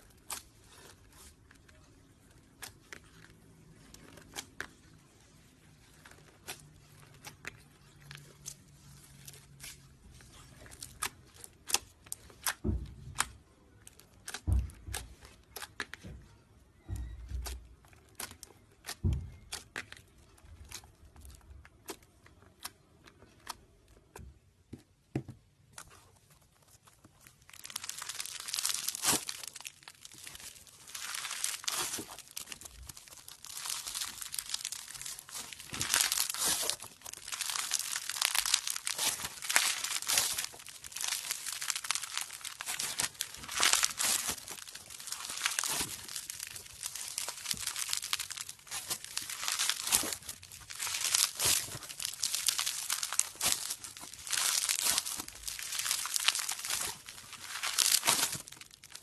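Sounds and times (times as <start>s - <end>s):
foam slime crackling and popping: 0.0s - 16.1s, 16.7s - 24.0s, 25.8s - 59.0s.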